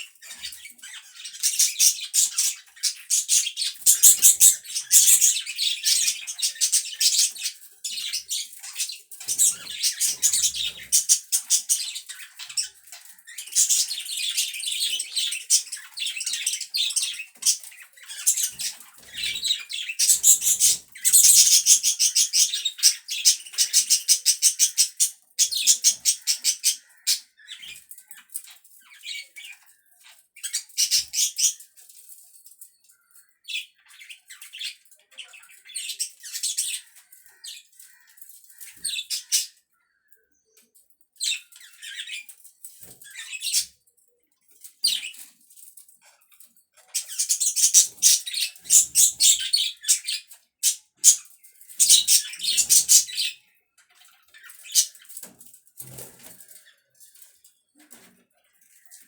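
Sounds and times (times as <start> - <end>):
budgerigars chirping and warbling: 0.0 - 31.8, 32.8 - 43.8, 44.5 - 45.4, 46.8 - 59.0.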